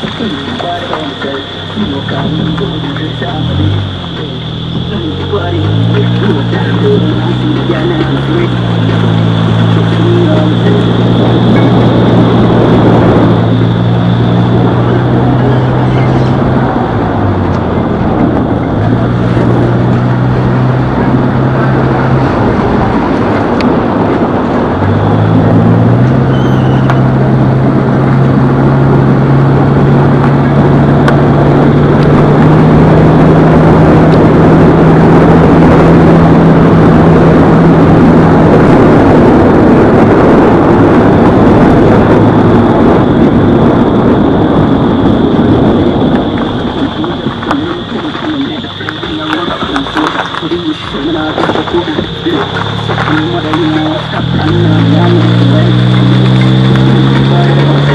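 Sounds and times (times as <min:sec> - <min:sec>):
vehicle engine running: 0:00.0 - 0:57.9
wind and road noise: 0:00.0 - 0:57.9.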